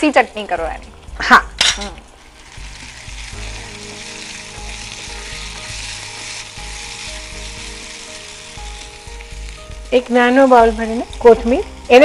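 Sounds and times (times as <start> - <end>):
peas sizzling in hot oil: 0.0 - 12.0
spatula stirring: 2.2 - 12.0.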